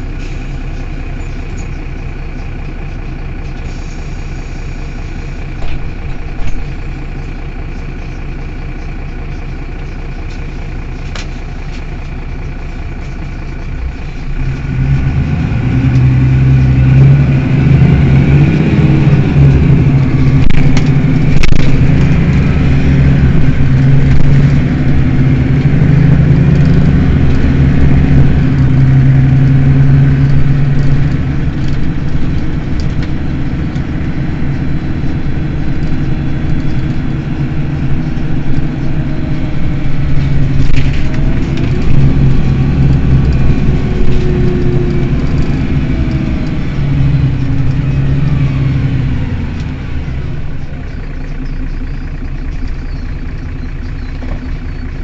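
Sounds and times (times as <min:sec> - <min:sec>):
bus engine idling: 0:00.0 - 0:55.0
bus engine under load: 0:00.0 - 0:55.0.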